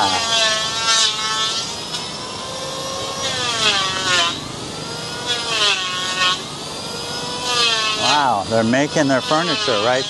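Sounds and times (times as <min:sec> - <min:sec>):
electric hand planer whining: 0:00.0 - 0:10.0
rasping hiss of wood shaving: 0:00.0 - 0:10.0.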